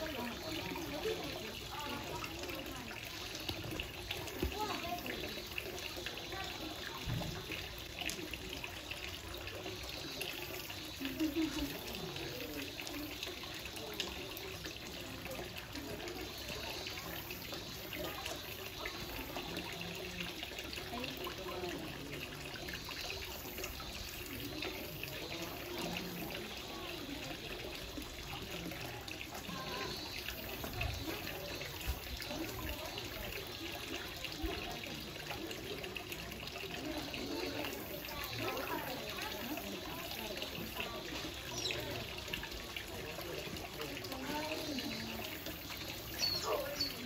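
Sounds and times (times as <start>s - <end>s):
water running and trickling: 0.0s - 47.0s.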